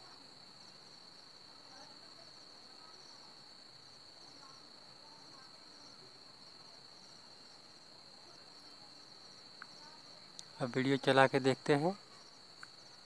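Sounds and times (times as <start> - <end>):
crickets trilling: 0.0 - 13.0
soft insect chirps: 0.0 - 13.0.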